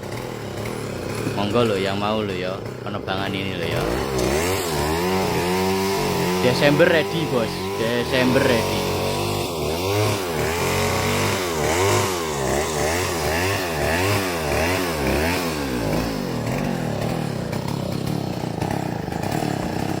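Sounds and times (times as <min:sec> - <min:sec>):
chainsaw cutting roots: 0:00.0 - 0:20.0.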